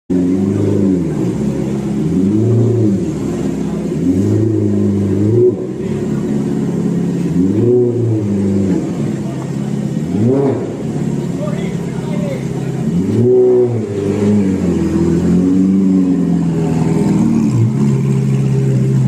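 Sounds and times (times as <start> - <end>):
engine revving in short blips: 0.1 - 11.4, 12.6 - 19.0.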